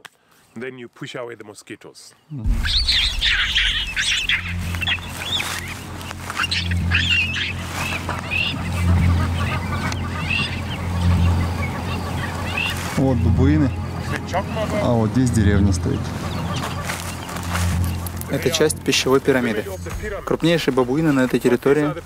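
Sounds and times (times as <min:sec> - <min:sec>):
steady low drone: 0:02.4 - 0:20.4
birds chirping and honking: 0:02.4 - 0:22.0.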